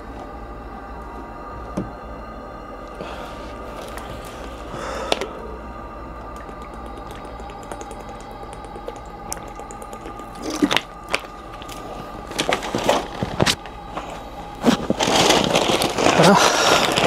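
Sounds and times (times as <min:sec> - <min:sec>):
two-note droning hum: 0:00.0 - 0:17.0.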